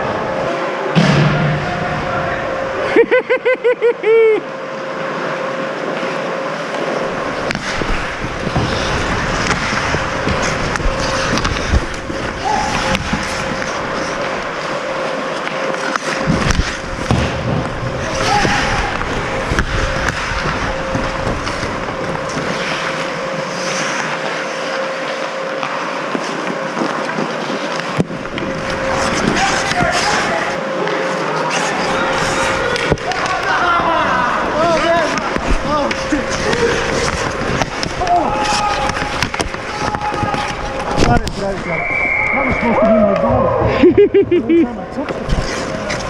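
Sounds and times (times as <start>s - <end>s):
skates scraping ice: 4.8s - 43.8s, 44.9s - 46.0s
sticks and puck clacking: 5.8s - 41.8s, 45.0s - 46.0s.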